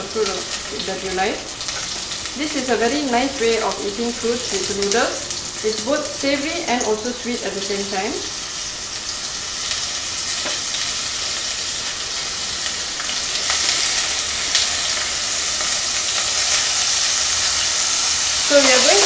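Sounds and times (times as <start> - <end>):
fruit sizzling in hot oil: 0.0 - 19.0.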